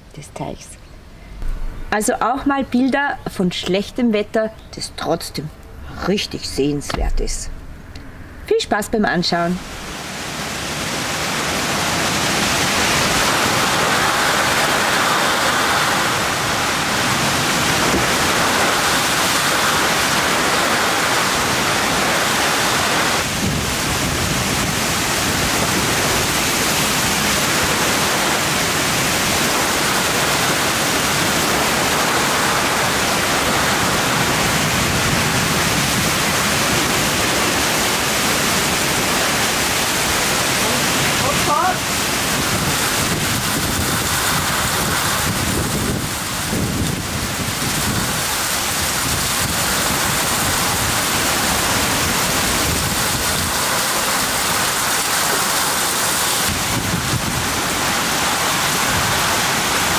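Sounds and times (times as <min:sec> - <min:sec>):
heavy rain pouring: 0:09.3 - 0:59.9.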